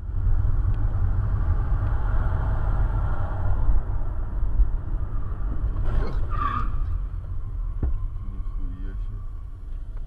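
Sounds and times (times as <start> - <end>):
car engine: 0.0 - 10.0.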